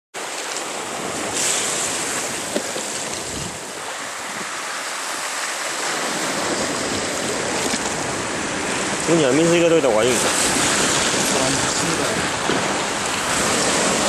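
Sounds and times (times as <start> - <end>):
sea waves washing: 0.2 - 14.0
wind on microphone: 0.8 - 14.0.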